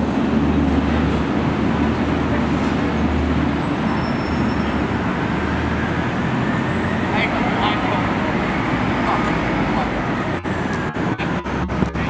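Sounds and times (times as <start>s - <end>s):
bus engine droning: 0.0s - 12.0s
traffic noise: 0.0s - 12.0s.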